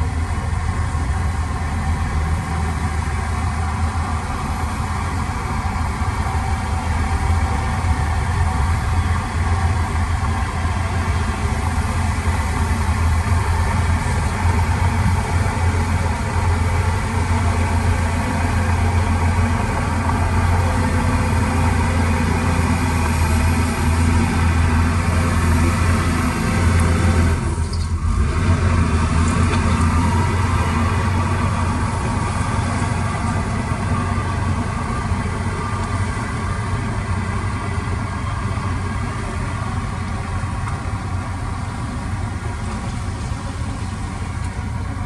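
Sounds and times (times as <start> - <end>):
heavy diesel engine rumbling: 0.0 - 45.0.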